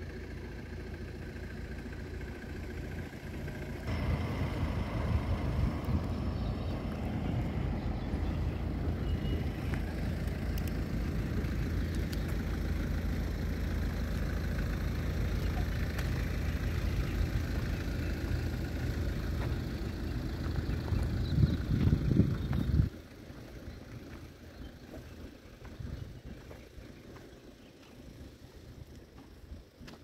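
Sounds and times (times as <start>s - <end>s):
heavy machinery rumbling: 0.1s - 29.8s.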